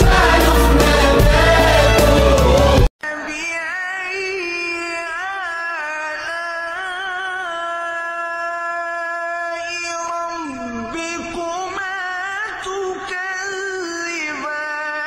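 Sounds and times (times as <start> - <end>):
person singing wordless vocalise: 0.0 - 15.0.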